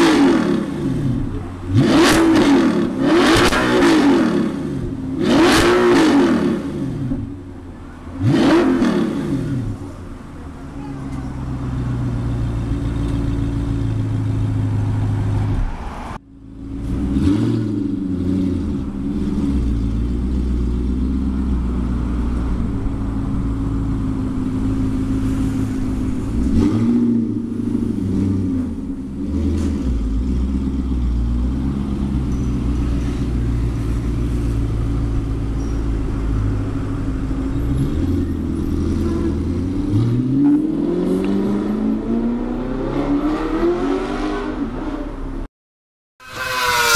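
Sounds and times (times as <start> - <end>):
car engine idling and revving: 0.0 - 45.5, 46.2 - 46.9.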